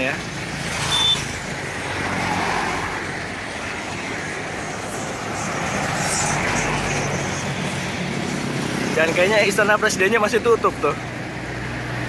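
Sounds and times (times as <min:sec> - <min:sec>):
cars passing: 0:00.0 - 0:12.0
motorbikes passing: 0:00.0 - 0:12.0.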